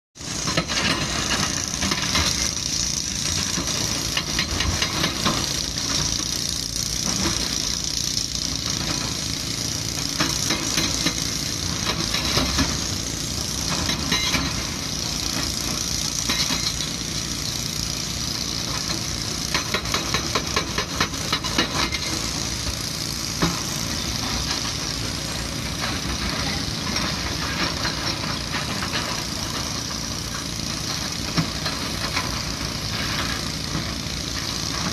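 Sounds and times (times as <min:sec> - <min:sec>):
diesel engines running: 0:00.2 - 0:34.9
hydraulic breaker hammer pounding rock: 0:00.2 - 0:34.9.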